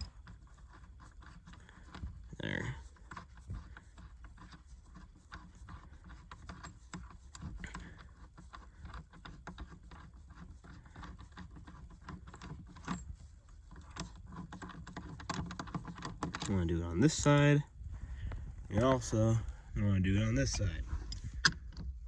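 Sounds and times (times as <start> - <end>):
light metal rattling: 0.0 - 22.0.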